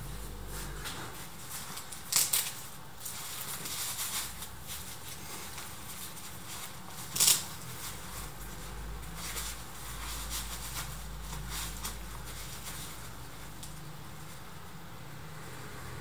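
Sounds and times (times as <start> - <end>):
gloves rustling and rubbing: 0.0 - 15.0.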